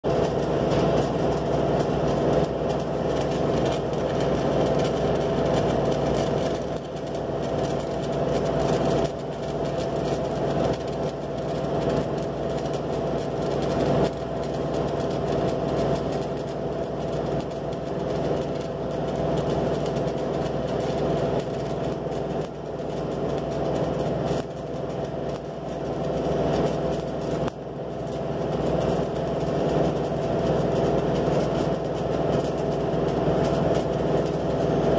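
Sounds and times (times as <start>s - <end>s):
welding arc crackling: 0.0s - 34.9s.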